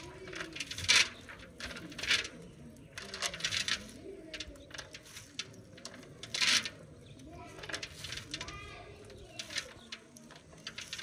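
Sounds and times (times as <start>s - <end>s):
doves cooing: 0.0s - 11.0s
raisins rustling in metal bowl: 0.0s - 11.0s.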